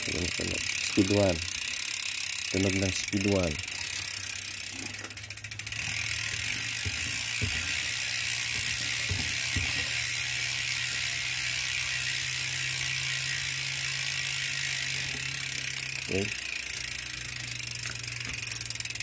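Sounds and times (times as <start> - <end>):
freehub ratchet clicking: 0.0 - 19.0.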